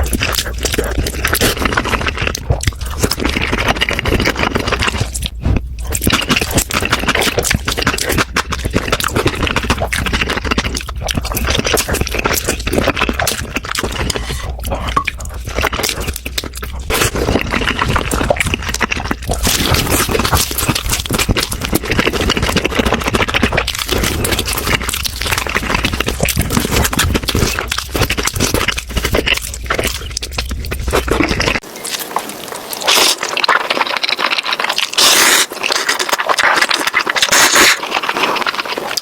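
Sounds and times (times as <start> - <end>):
close chewing and crunching: 0.0 - 39.0.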